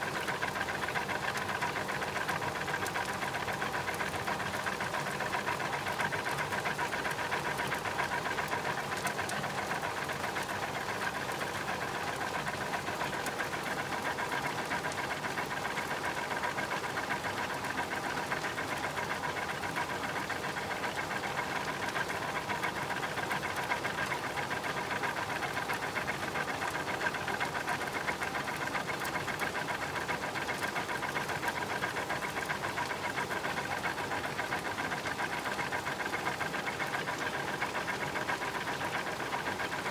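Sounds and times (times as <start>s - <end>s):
washing machine hum: 0.0s - 39.9s.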